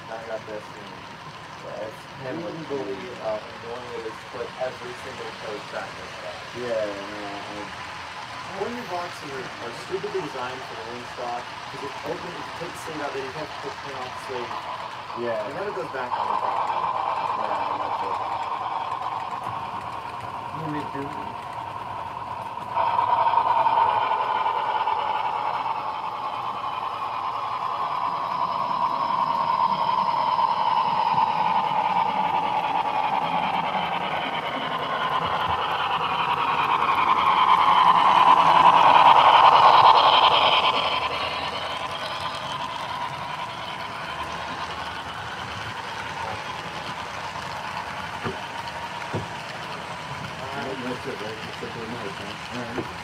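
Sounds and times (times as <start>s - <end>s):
model train whining on track: 0.0s - 53.0s.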